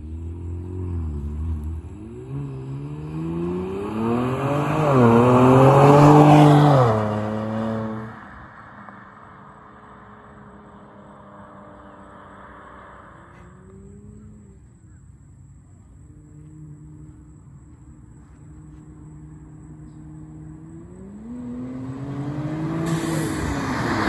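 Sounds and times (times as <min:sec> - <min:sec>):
car accelerating past: 0:00.0 - 0:14.9, 0:18.5 - 0:24.0.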